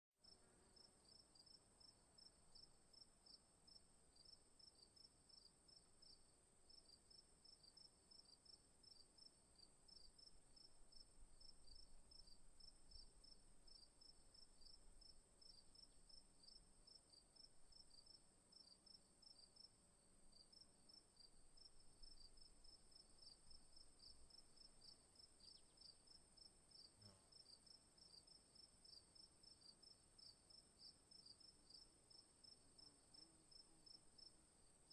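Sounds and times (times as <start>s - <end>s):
crickets chirping: 0.2s - 34.9s.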